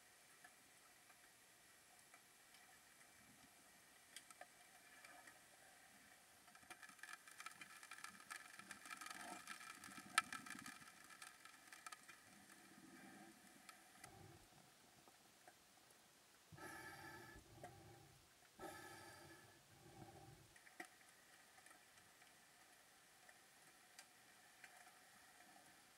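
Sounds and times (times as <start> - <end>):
underwater clicks and crackles: 0.0 - 16.0, 16.6 - 25.9
faint steady hum: 0.0 - 25.9.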